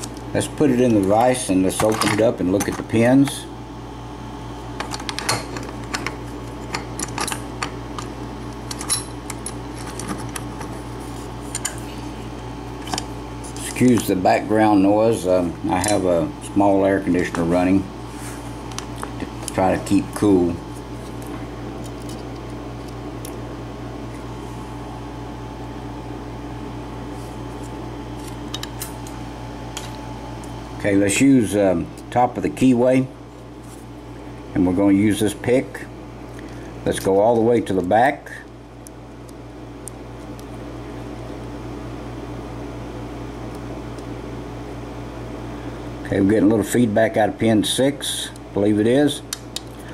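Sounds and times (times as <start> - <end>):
air conditioner humming: 0.0 - 49.9.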